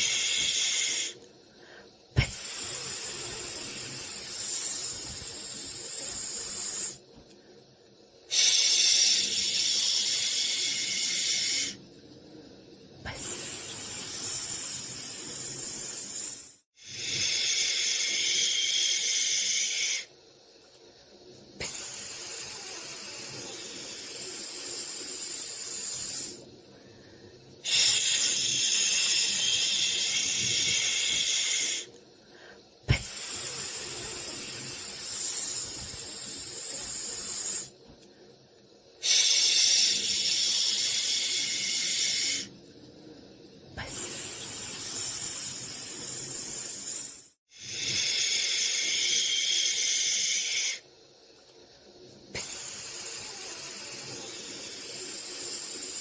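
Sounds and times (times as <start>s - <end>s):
high-pitched white noise hiss: 0.0s - 56.0s.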